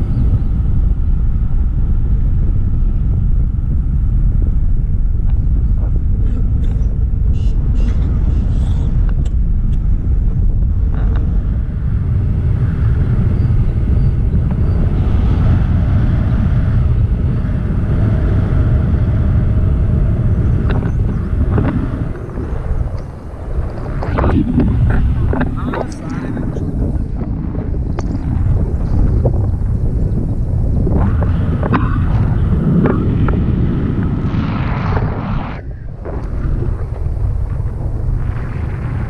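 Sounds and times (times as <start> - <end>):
wind rumbling on microphone: 0.0 - 39.0.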